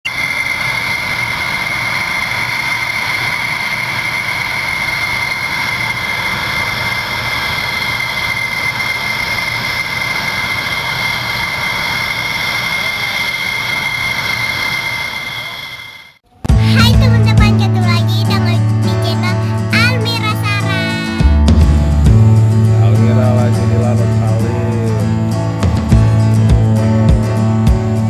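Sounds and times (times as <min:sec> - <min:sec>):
jet engine whine: 0:00.0 - 0:16.2, 0:18.9 - 0:28.0.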